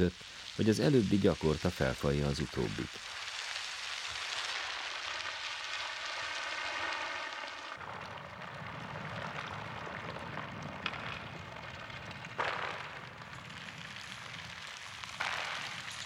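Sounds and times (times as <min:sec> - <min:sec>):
low rumble with hissing crackle: 0:00.0 - 0:16.0.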